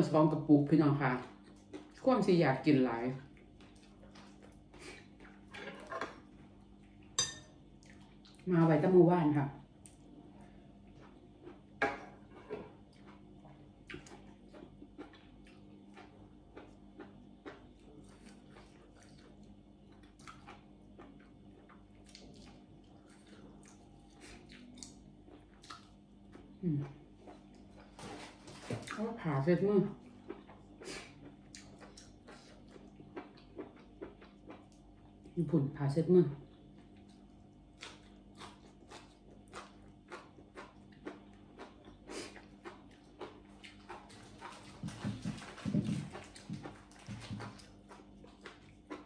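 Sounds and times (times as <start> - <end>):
low steady hum: 0.0 - 49.0
person chewing with wet smacks: 1.1 - 2.1, 3.2 - 5.6, 6.2 - 8.5, 9.8 - 35.4, 36.4 - 49.0.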